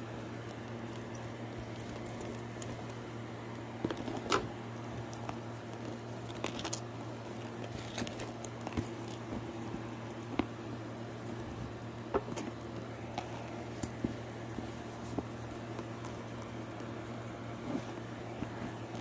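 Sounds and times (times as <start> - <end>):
steady low hum: 0.0 - 19.0
handbag and box rustling: 0.3 - 19.0.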